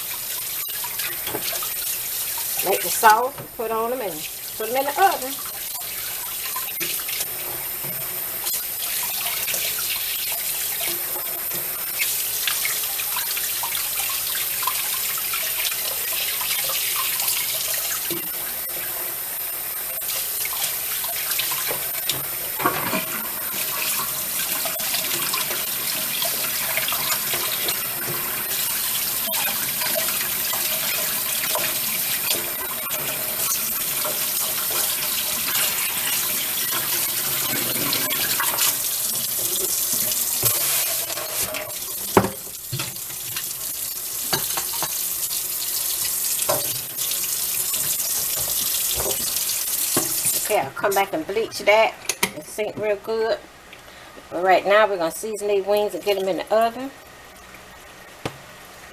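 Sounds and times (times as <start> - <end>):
faucet running into sink: 0.0 - 51.4.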